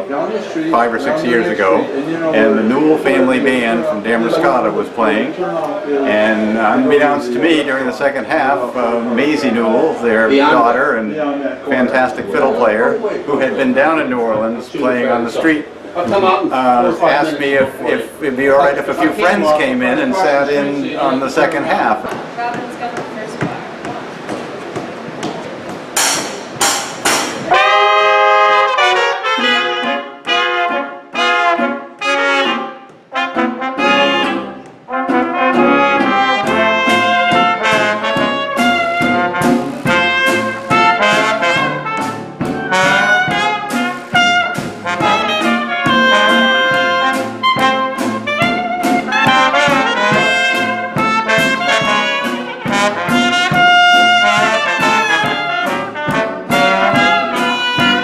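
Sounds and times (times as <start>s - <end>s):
jazz band playing live: 0.7s - 5.4s, 6.0s - 58.0s.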